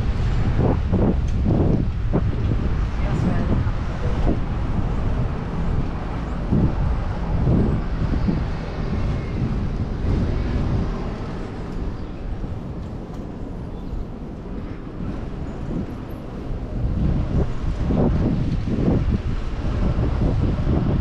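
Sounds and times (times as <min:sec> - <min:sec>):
road traffic: 0:00.0 - 0:21.0
wind rumble on microphone: 0:00.0 - 0:21.0.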